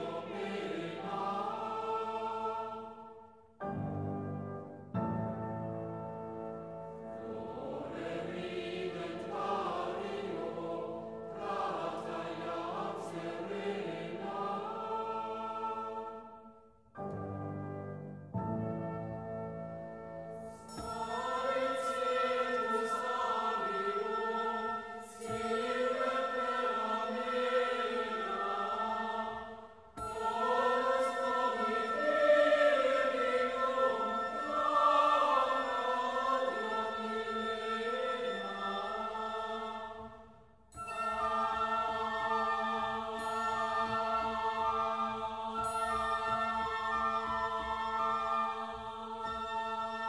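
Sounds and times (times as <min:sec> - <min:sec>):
voices singing chant-like melody: 0:00.0 - 0:03.4, 0:07.1 - 0:16.5, 0:20.7 - 0:50.0.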